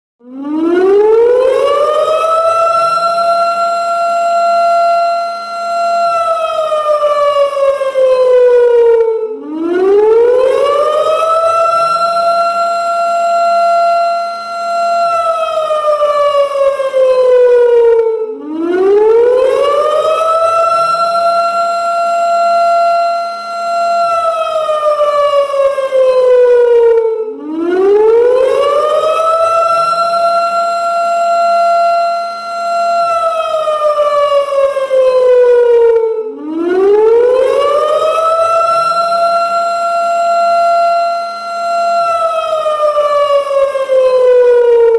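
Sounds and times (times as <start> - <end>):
warning siren wailing: 0.2 - 44.9.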